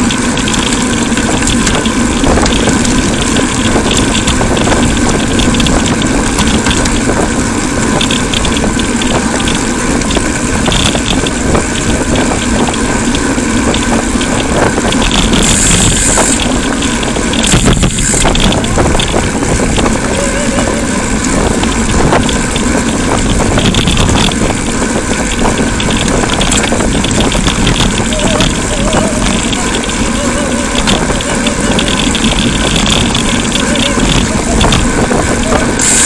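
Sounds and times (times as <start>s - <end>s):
motor vehicle noise: 0.0s - 36.0s
road and wind noise: 0.0s - 36.0s.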